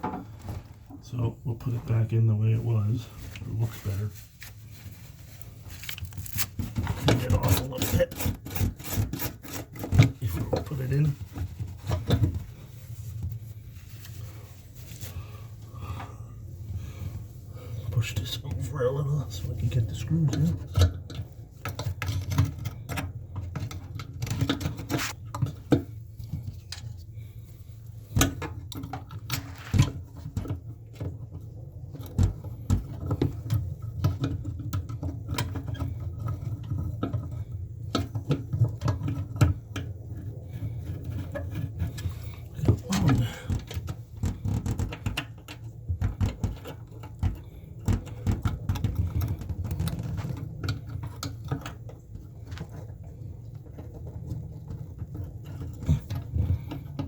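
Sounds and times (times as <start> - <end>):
low steady hum: 0.0 - 57.0
small clicks taps and scrapes: 4.4 - 14.2, 19.4 - 27.2, 28.1 - 57.0.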